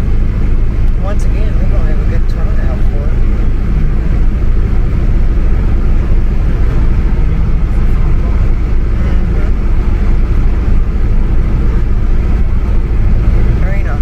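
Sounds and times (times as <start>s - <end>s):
low rumble of vehicle noise: 0.0s - 14.0s.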